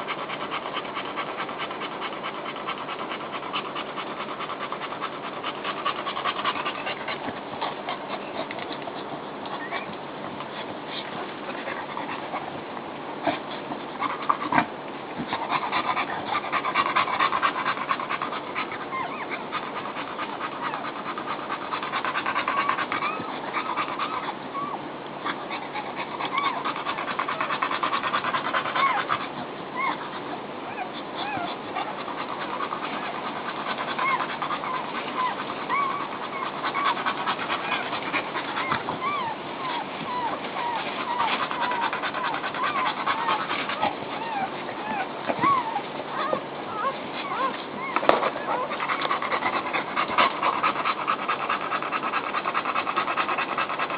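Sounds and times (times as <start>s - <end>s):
dog panting: 0.0s - 53.9s
puppies squeaking and whimpering: 0.3s - 12.6s, 13.2s - 14.7s, 15.3s - 53.9s.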